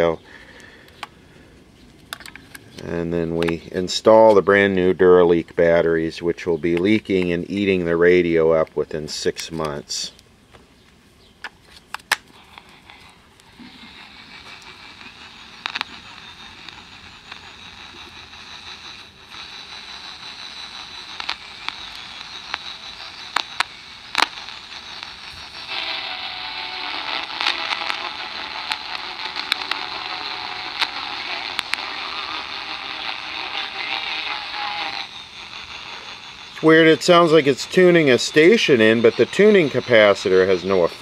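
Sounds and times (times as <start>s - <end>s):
radio static hiss: 0.0s - 1.3s, 2.1s - 10.2s, 12.0s - 41.0s
clicks and crackles: 1.8s - 4.4s, 8.6s - 41.0s.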